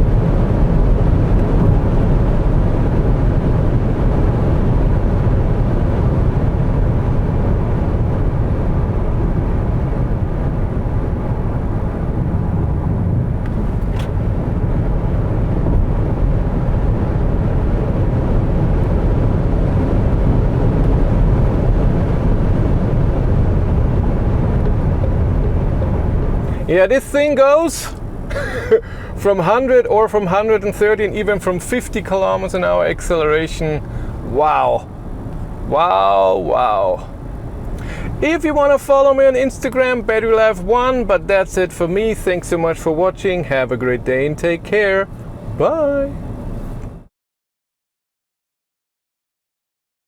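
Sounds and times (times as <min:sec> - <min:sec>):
tyre and wind noise in car: 0:00.0 - 0:47.1.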